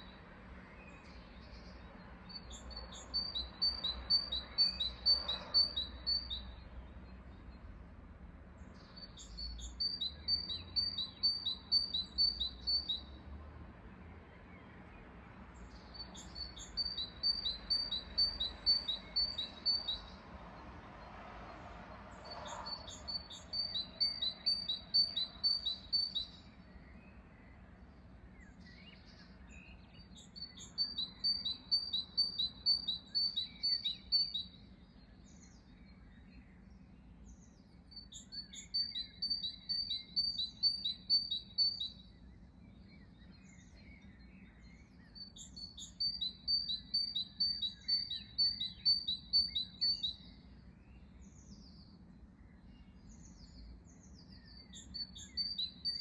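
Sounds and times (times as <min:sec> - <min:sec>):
songbird singing high chirps: 0:00.0 - 0:56.0.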